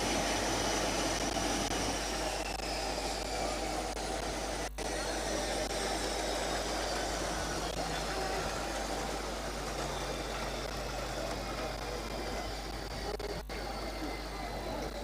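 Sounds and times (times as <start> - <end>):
aircraft engines whining: 0.0 - 15.0.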